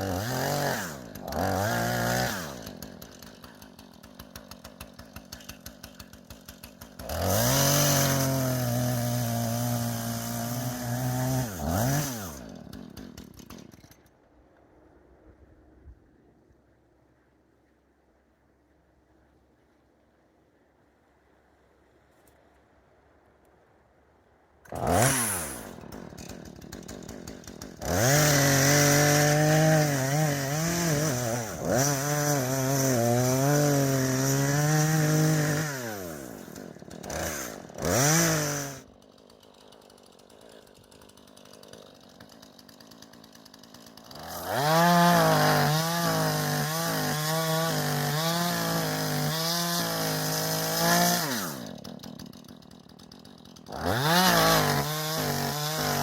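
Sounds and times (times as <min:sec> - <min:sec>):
chainsaw cutting into a tree: 0:00.0 - 0:14.1, 0:24.6 - 0:56.0.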